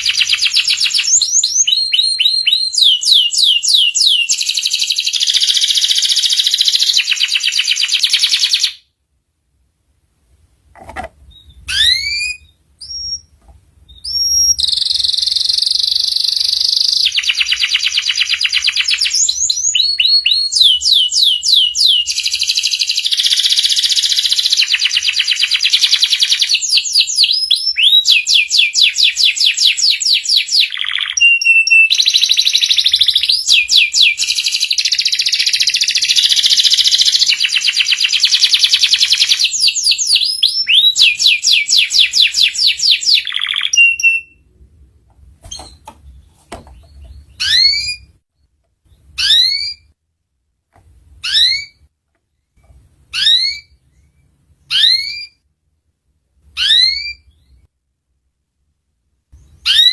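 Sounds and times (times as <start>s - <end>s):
canary singing: 0.0s - 8.9s, 11.2s - 44.5s, 45.4s - 48.2s, 48.8s - 50.0s, 51.2s - 51.9s, 53.1s - 55.4s, 56.5s - 57.6s, 59.4s - 59.9s.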